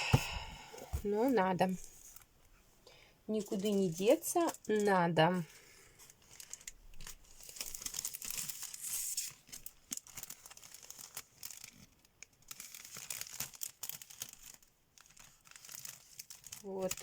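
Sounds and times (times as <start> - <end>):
paper rustling and crinkling: 3.4 - 17.0.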